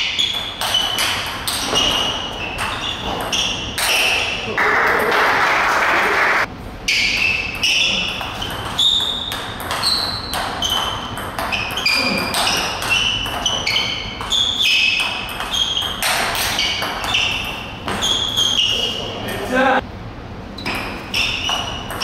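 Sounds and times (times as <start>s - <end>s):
table tennis ball hits: 0.0s - 6.4s, 7.0s - 18.3s, 20.6s - 22.0s.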